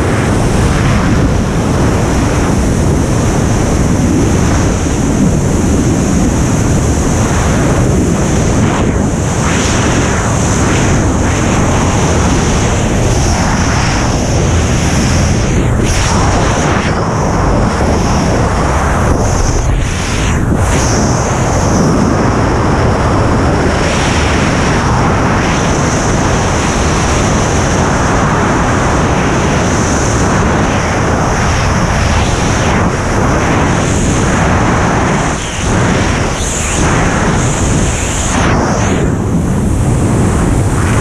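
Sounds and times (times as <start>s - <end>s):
wind buffeting a microphone: 0.0s - 41.0s.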